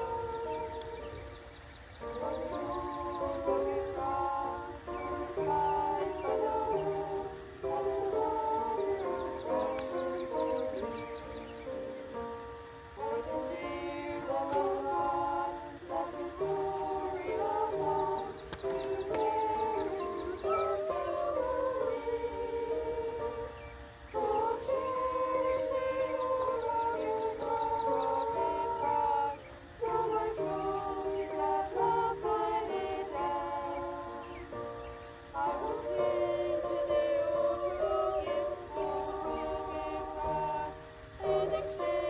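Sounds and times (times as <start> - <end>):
women's choir singing: 0.0 - 42.0.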